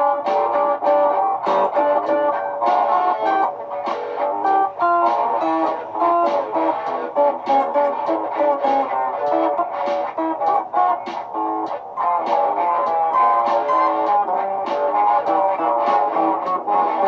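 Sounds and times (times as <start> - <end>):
layered electric guitar picking: 0.0 - 17.0.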